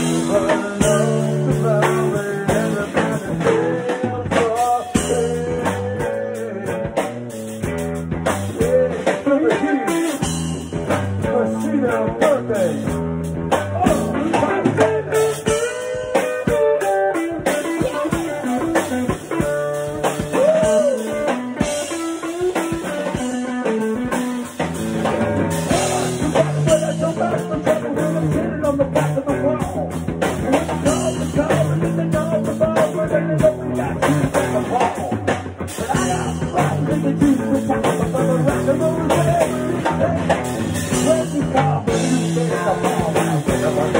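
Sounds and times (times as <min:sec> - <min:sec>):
drum kit: 0:00.0 - 0:43.9
electric guitar lead: 0:00.0 - 0:43.9
rock band playing blues: 0:00.0 - 0:43.9.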